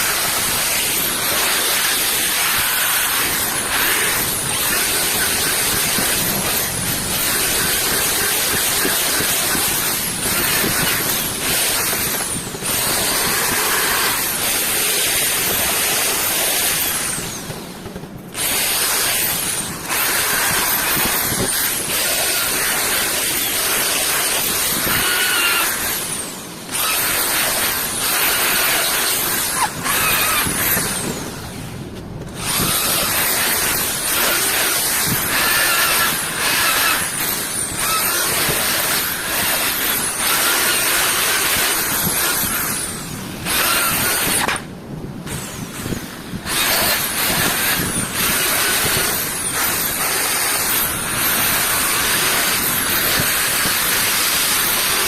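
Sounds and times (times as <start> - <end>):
power tool running: 0.0 - 55.0.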